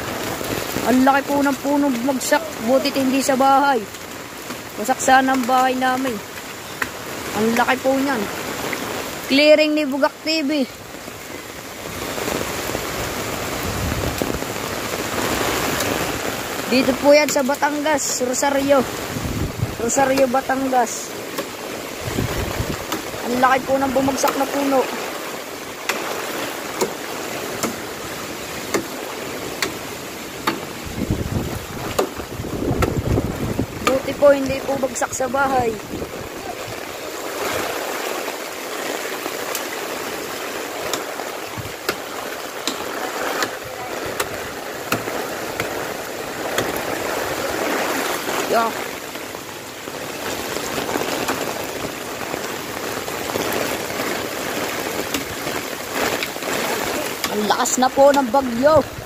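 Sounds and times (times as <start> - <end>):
wind and rain hissing: 0.0 - 59.0.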